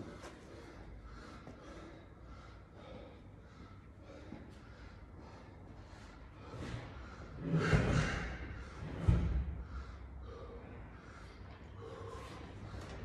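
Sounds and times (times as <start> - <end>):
heavy panting breaths: 0.0 - 13.0.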